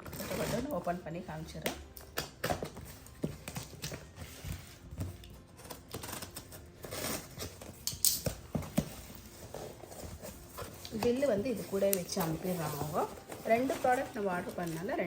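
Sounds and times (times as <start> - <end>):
packaging rustling and crinkling: 2.4 - 15.0.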